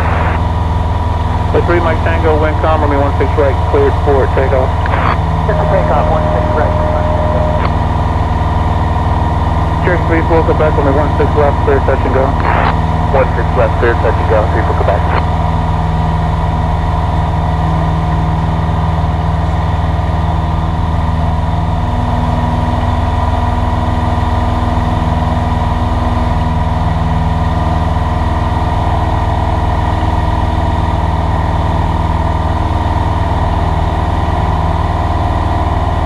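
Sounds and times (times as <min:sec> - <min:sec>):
propeller plane engine drone: 0:00.0 - 0:36.0.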